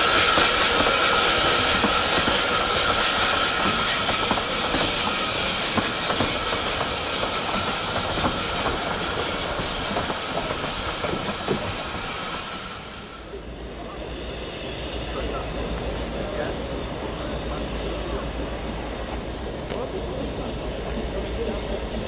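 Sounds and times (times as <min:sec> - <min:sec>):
rail clicks: 0:00.0 - 0:22.0
train wheels rushing on rails: 0:00.0 - 0:22.0.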